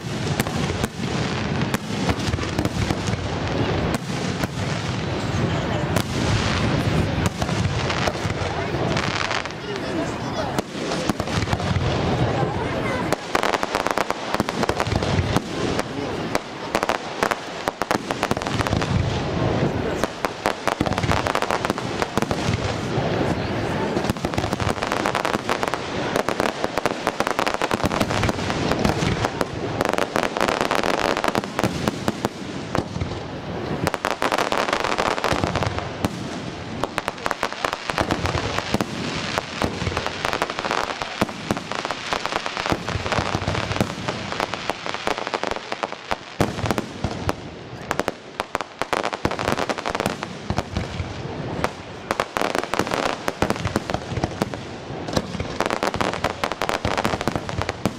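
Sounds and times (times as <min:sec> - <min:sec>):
fireworks bursting and crackling: 0:00.0 - 0:57.9.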